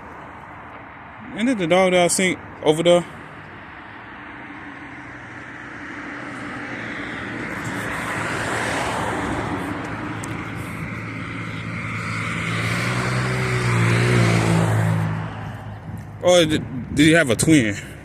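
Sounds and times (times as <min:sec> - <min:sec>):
vehicle going by: 0:00.8 - 0:18.0.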